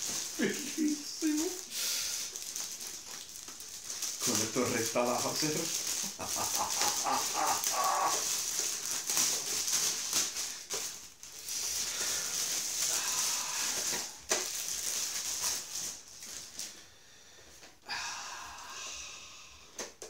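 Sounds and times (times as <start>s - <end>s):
plastic wrapping crinkling: 0.0s - 17.7s.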